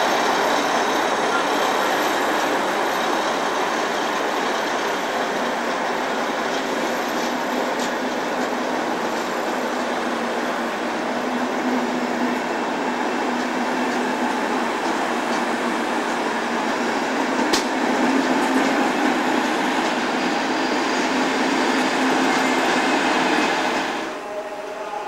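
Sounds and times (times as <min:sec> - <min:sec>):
train wheels rolling on rail: 0:00.0 - 0:24.9.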